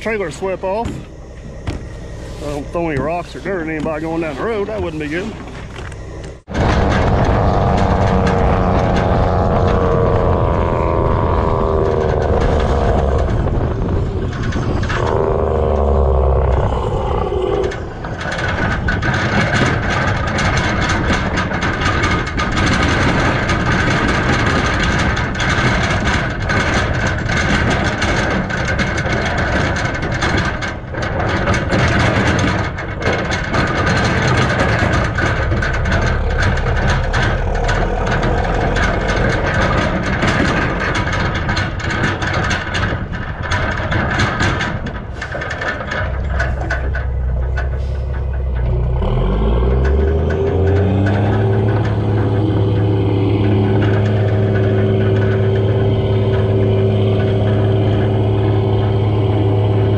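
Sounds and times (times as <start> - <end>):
trailer deck rattling: 0.0 - 59.9
truck engine pulling through gears: 0.0 - 59.9
wind and road noise: 0.0 - 59.9.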